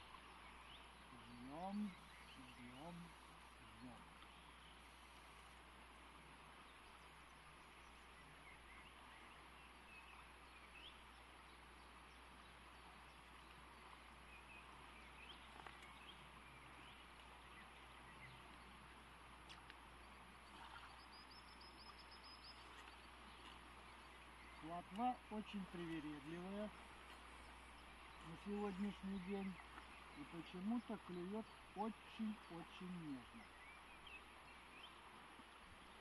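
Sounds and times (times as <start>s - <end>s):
distant bird chirps: 0.0s - 36.0s
flowing river water: 0.0s - 36.0s.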